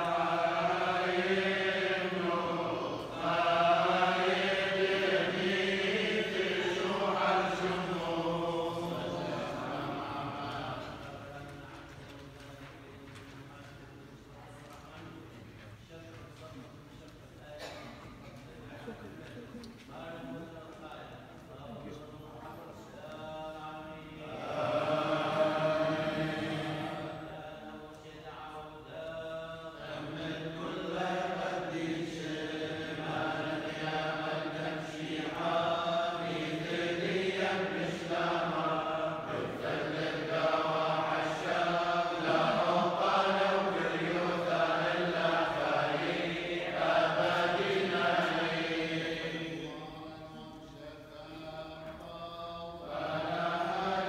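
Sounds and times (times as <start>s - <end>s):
men chanting prayers: 0.0s - 54.0s.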